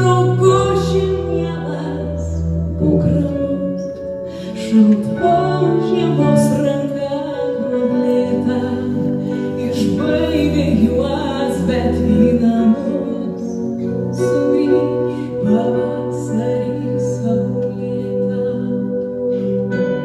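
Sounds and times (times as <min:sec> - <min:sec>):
woman singing: 0:00.0 - 0:19.4
keyboard chords: 0:00.0 - 0:20.0.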